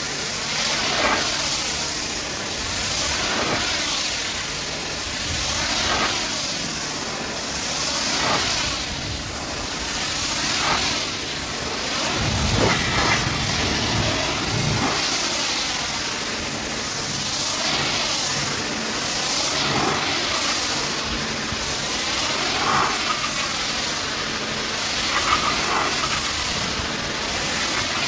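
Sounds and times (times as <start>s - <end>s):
pressure washer jet hissing: 0.0s - 28.0s.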